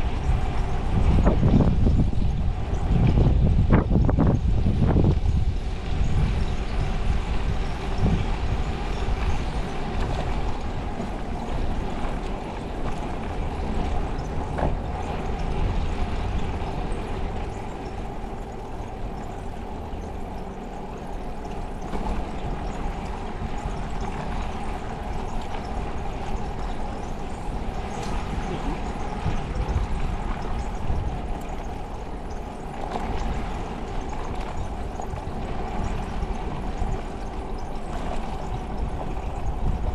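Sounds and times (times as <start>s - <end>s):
road noise: 0.0s - 39.9s
steady low hum: 0.0s - 39.9s
wind buffeting microphone: 0.0s - 39.9s.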